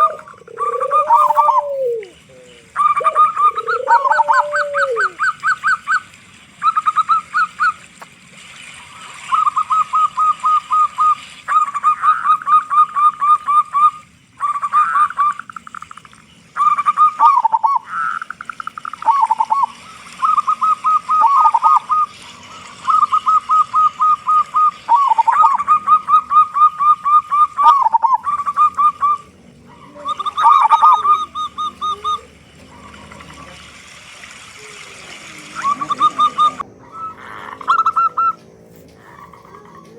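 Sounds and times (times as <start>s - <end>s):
dove cooing: 0.0s - 8.0s, 8.9s - 39.9s.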